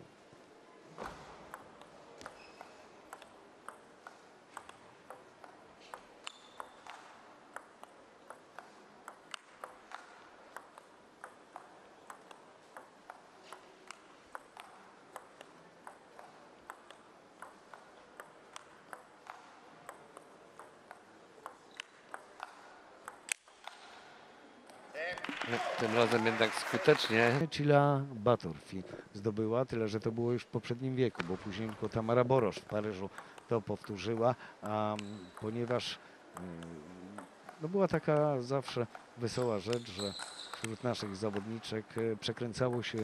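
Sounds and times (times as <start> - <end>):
table tennis ball hits: 1.0 - 24.1, 31.1 - 37.6, 38.2 - 43.0.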